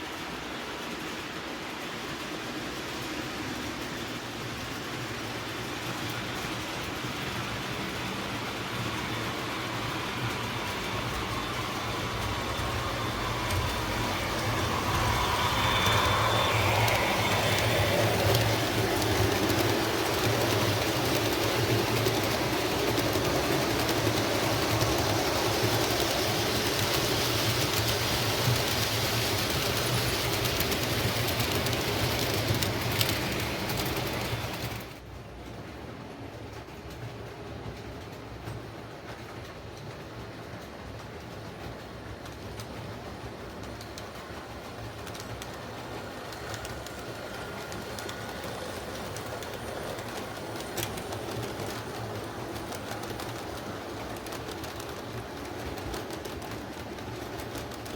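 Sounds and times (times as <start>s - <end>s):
model train wheels rolling: 0.0s - 35.1s, 35.9s - 57.9s.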